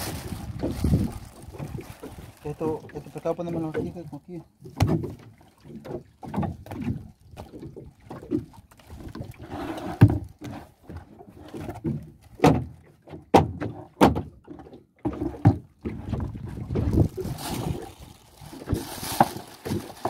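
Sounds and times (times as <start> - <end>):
knocks and thuds on boat: 0.3 - 17.9.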